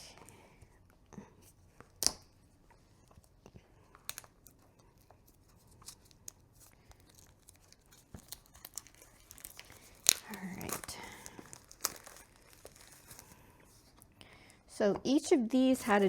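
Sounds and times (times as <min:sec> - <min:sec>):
packaging crinkling: 0:01.7 - 0:14.6.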